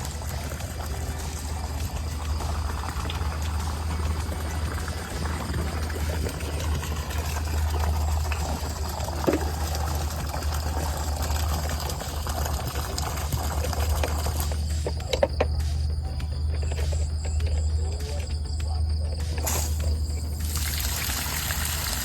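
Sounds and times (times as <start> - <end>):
low hum: 0.0 - 20.5
trickling pond water: 0.0 - 22.0.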